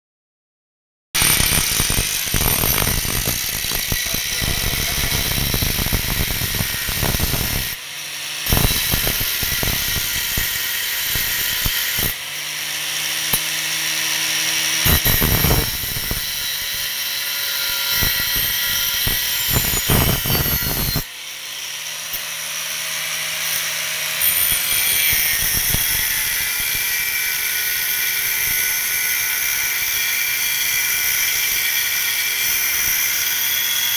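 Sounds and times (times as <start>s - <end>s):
angle grinder cutting steel: 1.2s - 33.9s.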